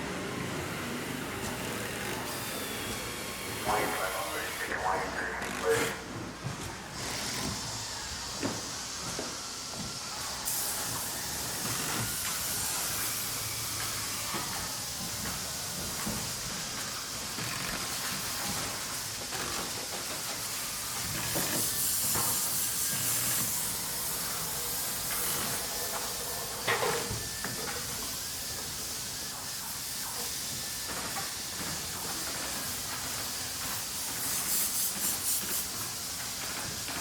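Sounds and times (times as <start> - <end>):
machinery hiss: 0.0 - 6.1, 7.0 - 37.0.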